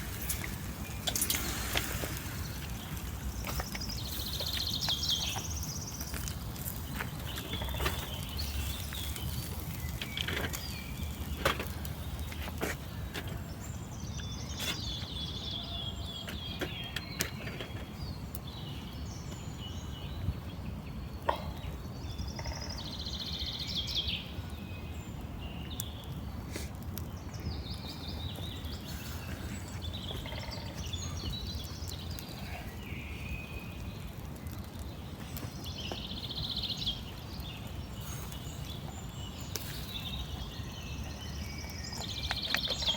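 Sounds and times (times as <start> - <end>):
birds chirping and trilling: 0.0 - 42.9.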